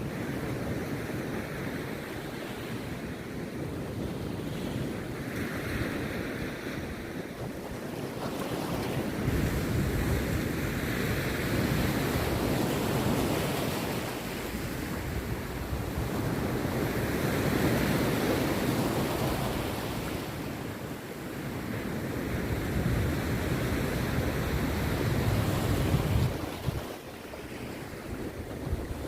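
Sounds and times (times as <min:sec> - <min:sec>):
rough sea surf breaking: 0:00.0 - 0:29.0.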